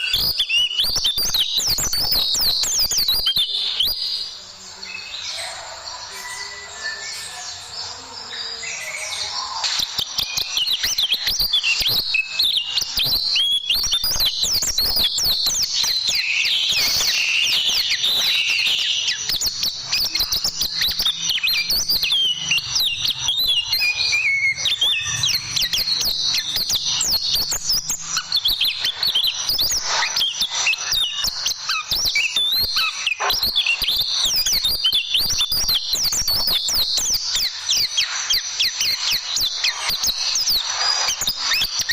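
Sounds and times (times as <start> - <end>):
bird chirps and trills: 0.0 - 41.9.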